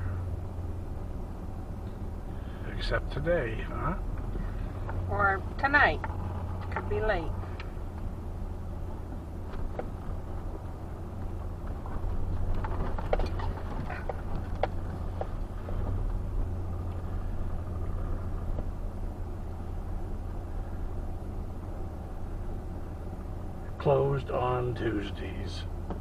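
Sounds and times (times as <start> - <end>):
engine and road hum: 0.0 - 26.0.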